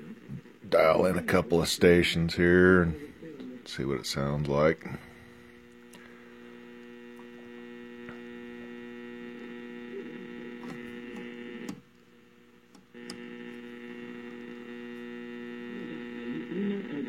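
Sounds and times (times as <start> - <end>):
radio speaker mains hum: 0.0 - 17.0.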